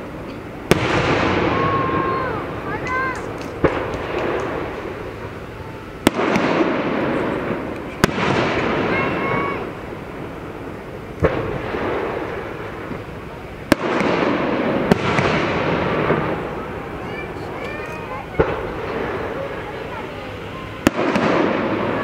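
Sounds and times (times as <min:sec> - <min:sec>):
rumbling firework tail: 0:00.0 - 0:17.6, 0:18.2 - 0:22.0
firework shells bursting: 0:00.0 - 0:20.0.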